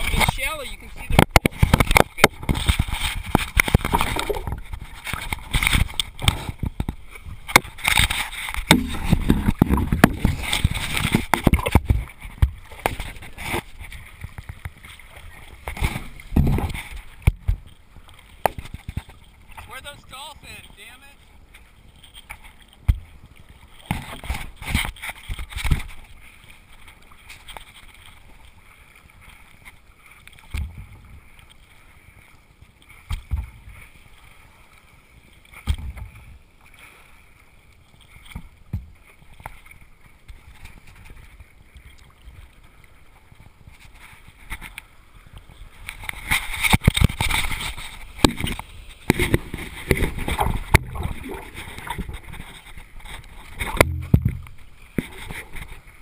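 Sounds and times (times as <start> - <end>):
paddle splashing in water: 0.0 - 56.0.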